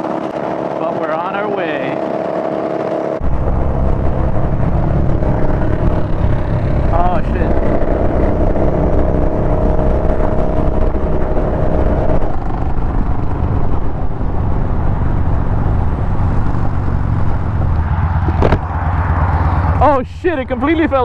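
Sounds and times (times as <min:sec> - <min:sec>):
motorcycle engine running: 0:00.0 - 0:21.0
wind rush on microphone: 0:01.6 - 0:20.0.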